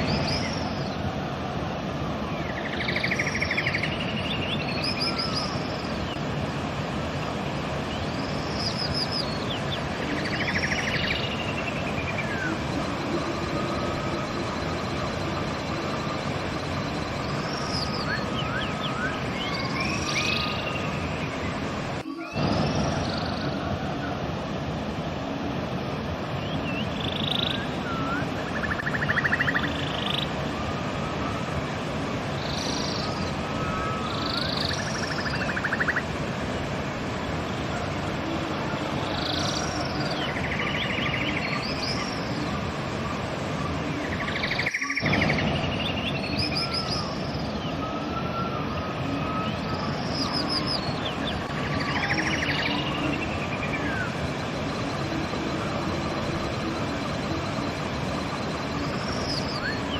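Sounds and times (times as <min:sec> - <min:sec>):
birds singing trills: 0:00.0 - 0:24.2, 0:26.2 - 0:59.9
river rushing: 0:00.0 - 0:59.9.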